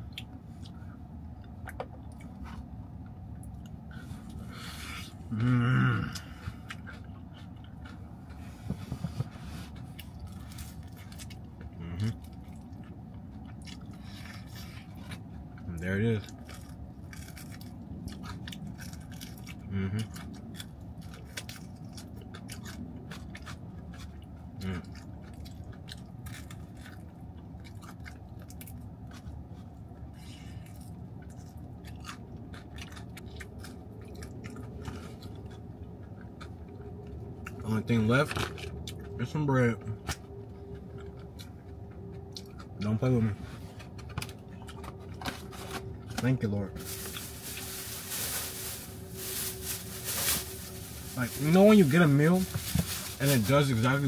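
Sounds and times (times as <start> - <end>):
person chewing fried chicken: 0.0 - 43.0, 43.7 - 48.8
low steady hum: 0.0 - 54.0.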